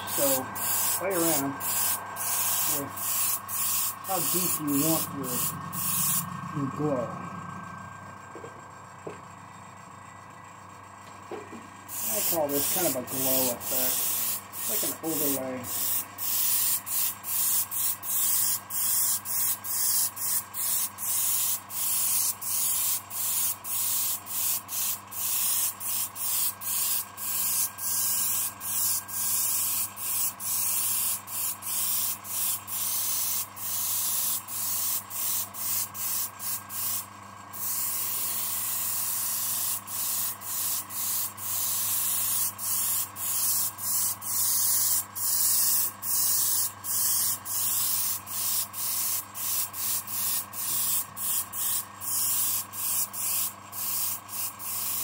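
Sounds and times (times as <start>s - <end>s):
airbrush spraying in hissing bursts: 0.0s - 6.3s, 11.9s - 55.0s
air compressor humming: 0.0s - 55.0s.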